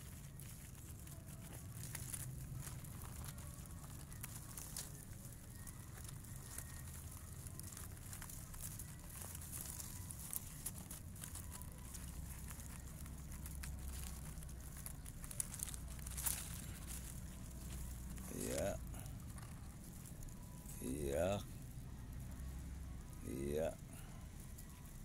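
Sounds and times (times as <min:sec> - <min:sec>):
soft crackles and clicks: 0:00.0 - 0:25.0.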